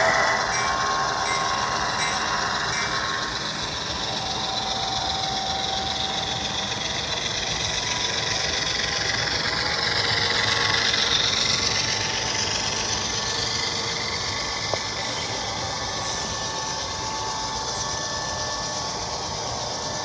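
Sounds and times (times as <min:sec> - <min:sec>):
model train running: 0:00.0 - 0:20.0.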